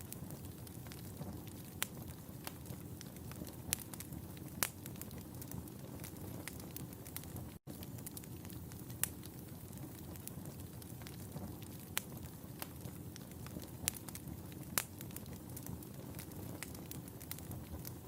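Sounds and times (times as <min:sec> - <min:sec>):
fire crackling: 0:00.0 - 0:18.0
sharp pops of fire: 0:00.0 - 0:18.0.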